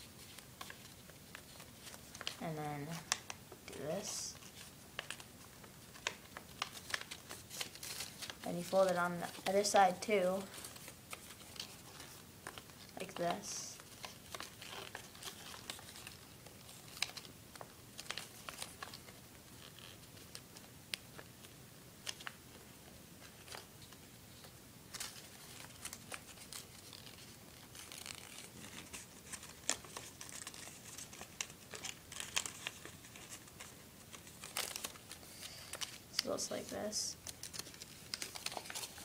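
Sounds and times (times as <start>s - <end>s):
paper folding and creasing: 0.0s - 39.0s.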